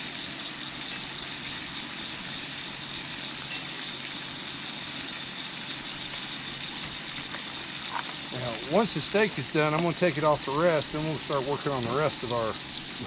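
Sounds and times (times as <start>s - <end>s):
steak sizzling in a skillet: 0.0s - 13.0s.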